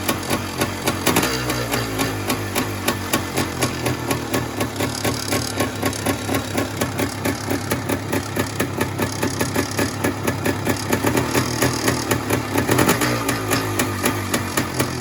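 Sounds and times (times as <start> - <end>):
light engine knock: 0.0 - 15.0
two-stroke engine idling: 0.0 - 15.0.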